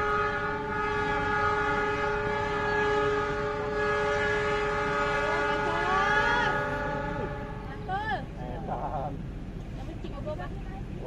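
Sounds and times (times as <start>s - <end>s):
train machinery humming: 0.0s - 11.0s.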